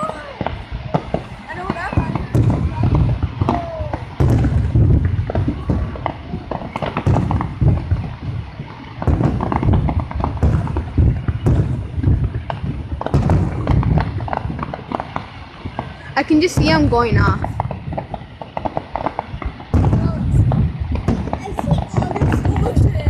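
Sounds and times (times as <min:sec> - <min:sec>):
fireworks crackling pops: 0:00.0 - 0:23.0
fireworks low booms: 0:00.0 - 0:23.0.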